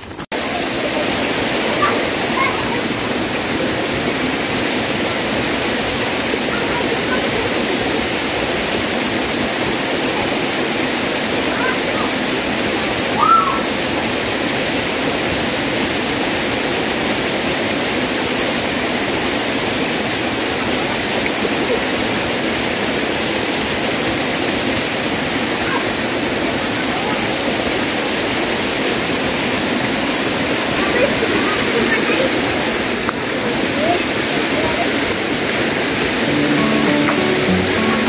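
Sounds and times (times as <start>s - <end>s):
waterfall pouring into pool: 0.4s - 38.0s.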